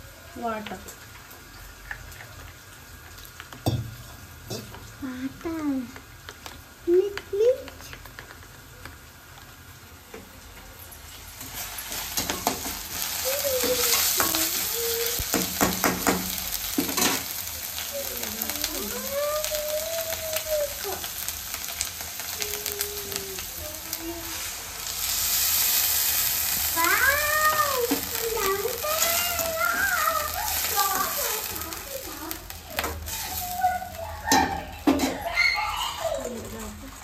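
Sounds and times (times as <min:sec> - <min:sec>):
vegetables sizzling in a wok: 0:00.0 - 0:37.0.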